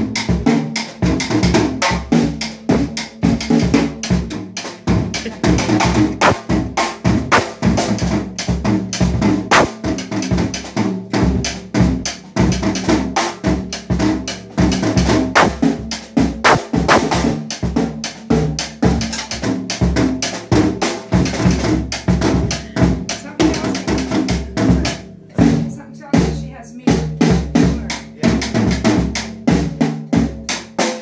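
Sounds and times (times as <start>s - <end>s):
drum kit played wildly: 0.0s - 31.0s.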